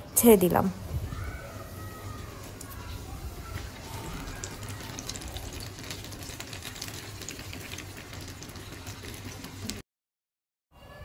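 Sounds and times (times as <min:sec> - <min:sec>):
chicken deep-frying in hot oil: 0:00.2 - 0:09.8.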